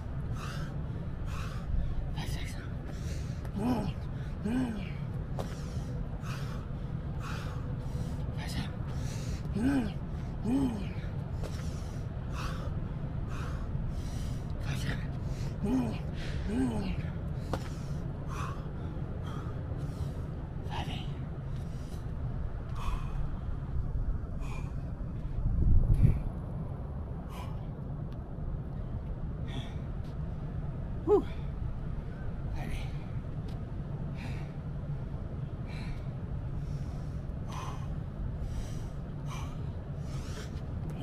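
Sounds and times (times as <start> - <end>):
man breathing hard: 0.0 - 28.0, 28.7 - 30.2, 31.1 - 41.0
steady low rumble: 0.0 - 41.0.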